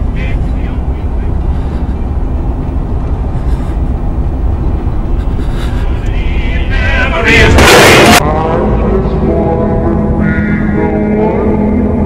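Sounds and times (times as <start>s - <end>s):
deep rumbling drone: 0.0s - 12.0s.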